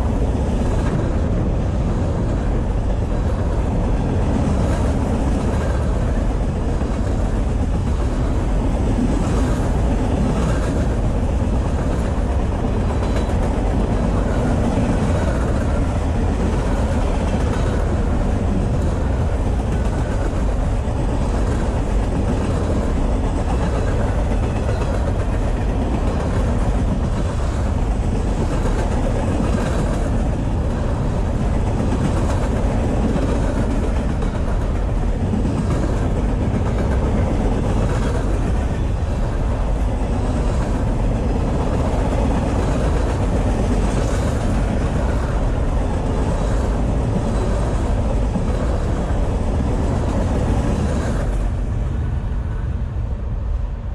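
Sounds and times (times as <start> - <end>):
light clacks of freight cars: 0.0 - 53.9
steel wheels rumbling on rail: 0.0 - 53.9.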